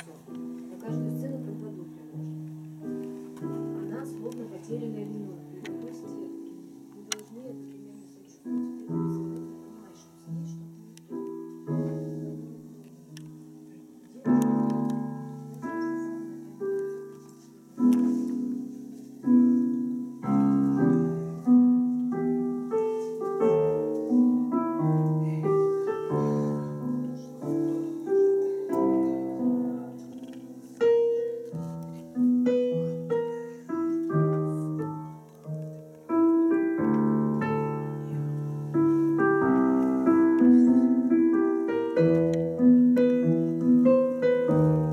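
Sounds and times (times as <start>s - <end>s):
solo piano melody: 0.0s - 44.9s.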